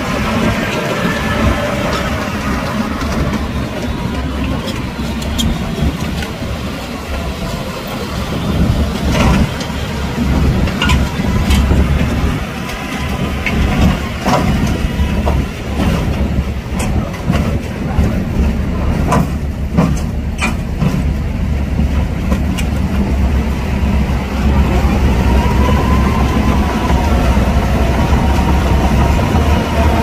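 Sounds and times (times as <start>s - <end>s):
bulldozer diesel engine: 0.0s - 30.0s
steel tracks clanking on metal: 0.0s - 30.0s.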